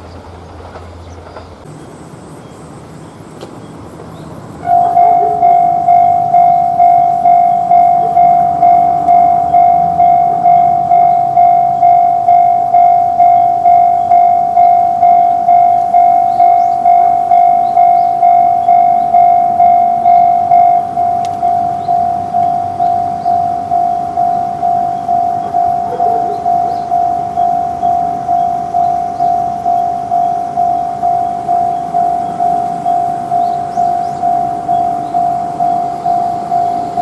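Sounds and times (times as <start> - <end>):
level crossing alarm ding: 4.6 - 37.0.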